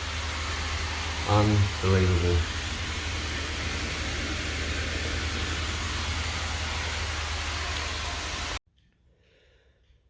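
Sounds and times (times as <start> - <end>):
low hum: 0.0 - 8.6
steady hiss: 0.0 - 8.6.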